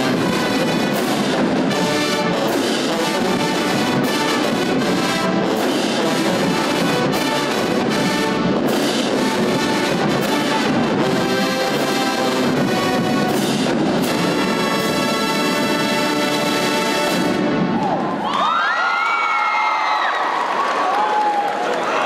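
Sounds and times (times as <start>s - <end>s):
marching band playing: 0.0s - 18.2s.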